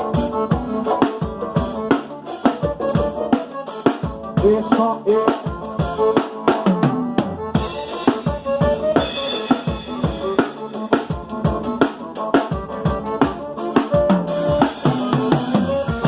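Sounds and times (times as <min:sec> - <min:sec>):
drum kit playing a beat: 0:00.0 - 0:16.0
held pitched instrument notes: 0:00.0 - 0:16.0.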